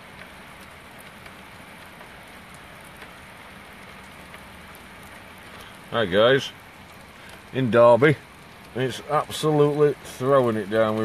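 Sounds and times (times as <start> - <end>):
heavy rain on hard surfaces: 0.0 - 11.0.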